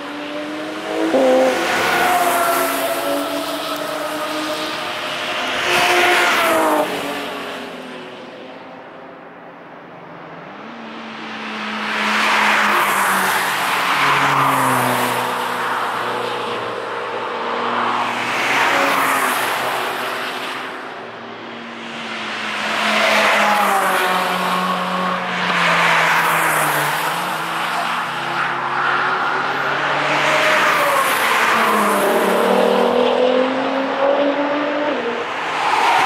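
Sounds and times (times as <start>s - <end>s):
race cars passing at speed: 0.0s - 36.0s.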